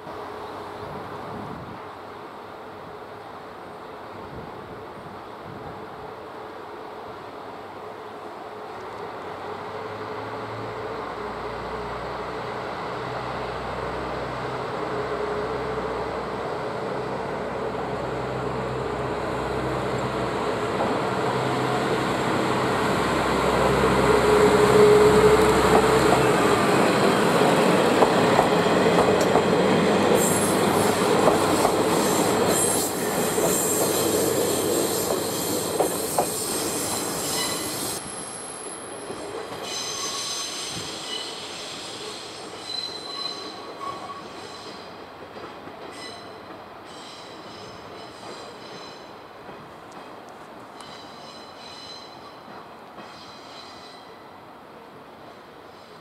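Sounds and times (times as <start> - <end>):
diesel railcar engine hum: 0.0 - 56.0.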